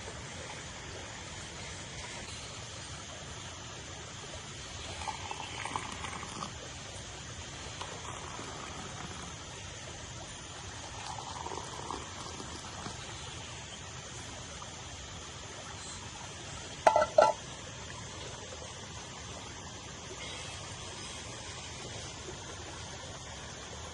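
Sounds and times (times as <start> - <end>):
rushing water: 0.0 - 23.9.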